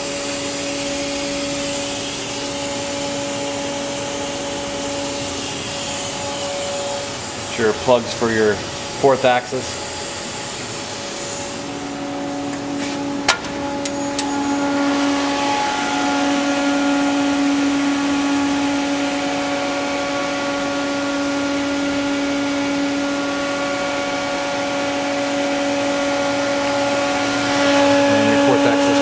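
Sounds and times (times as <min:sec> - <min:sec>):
cabinet fans running: 0:00.0 - 0:29.0
machine whirring hum: 0:00.0 - 0:29.0.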